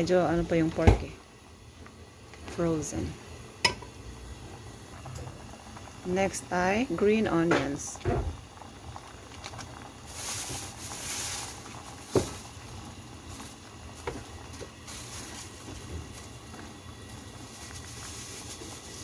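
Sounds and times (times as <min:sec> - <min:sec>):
pot bubbling at a boil: 0:00.0 - 0:19.0.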